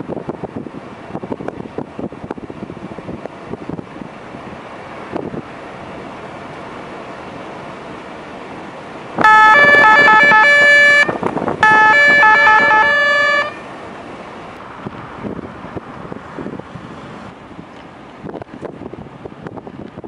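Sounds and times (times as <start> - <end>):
car driving noise: 0.0 - 20.0.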